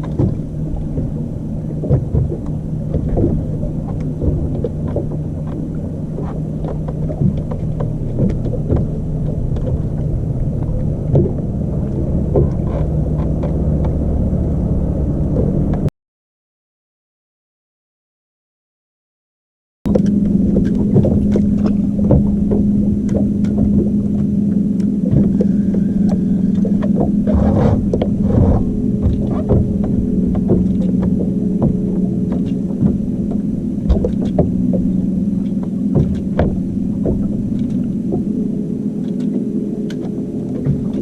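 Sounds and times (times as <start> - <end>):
outboard motor running: 0.0 - 15.9, 19.9 - 41.0.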